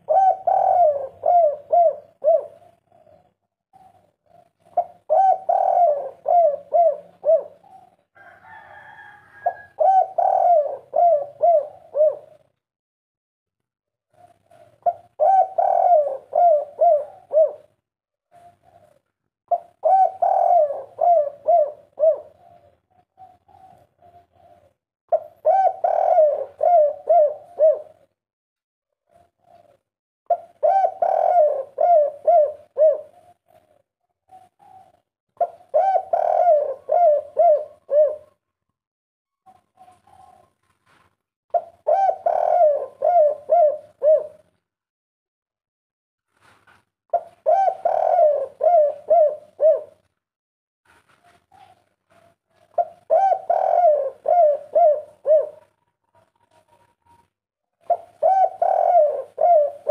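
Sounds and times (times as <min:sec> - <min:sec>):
dove cooing: 0:00.0 - 0:12.6, 0:14.1 - 0:28.2, 0:29.0 - 0:38.4, 0:39.4 - 0:40.8, 0:41.5 - 0:44.6, 0:47.1 - 0:50.1, 0:51.0 - 0:59.9.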